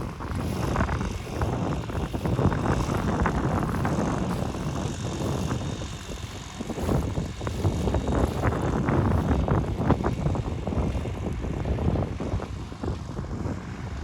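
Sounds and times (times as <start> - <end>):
engine rumbling with irregular pulses: 0.0 - 14.0.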